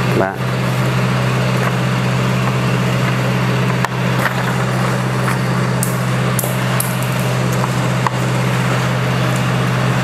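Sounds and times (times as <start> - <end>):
loud low hum: 0.0 - 10.0.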